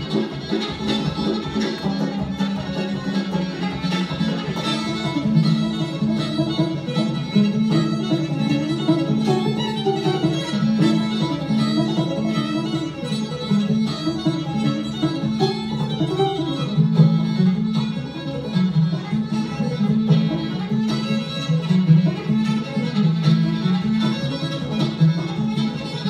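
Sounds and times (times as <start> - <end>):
bowed fiddle melody: 0.0 - 26.0
plucked banjo notes: 0.0 - 26.0.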